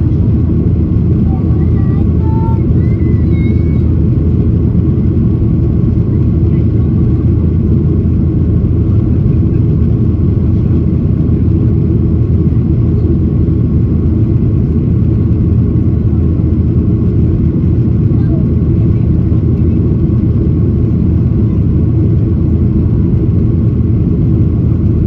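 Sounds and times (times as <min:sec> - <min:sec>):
airplane cabin jet engine noise: 0:00.0 - 0:25.0.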